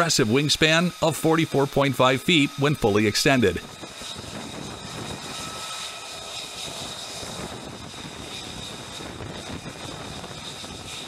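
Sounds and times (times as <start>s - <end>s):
jet engine running: 0.0s - 11.0s.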